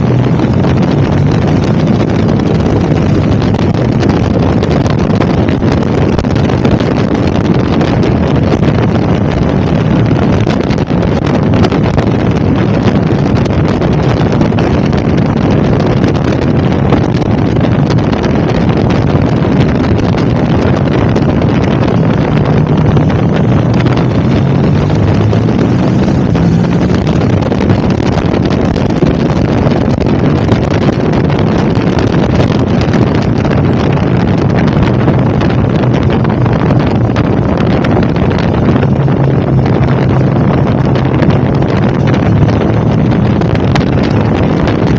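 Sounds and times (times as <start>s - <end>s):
motorcycle engine drone: 0.0s - 44.9s
wind buffeting microphone: 0.0s - 44.9s.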